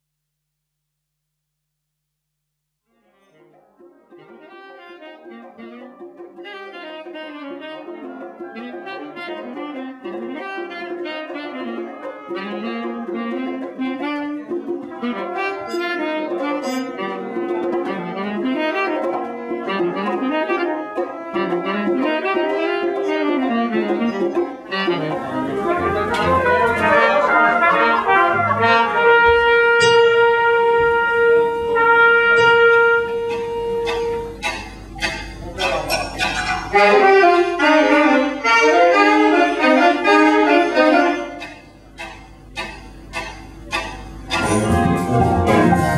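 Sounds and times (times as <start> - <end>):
brass wind instrument melody: 4.0 - 45.9.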